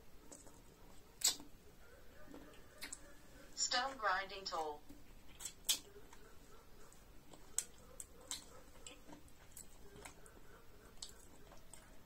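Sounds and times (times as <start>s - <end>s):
person chewing close up: 0.0s - 3.2s, 4.8s - 12.0s.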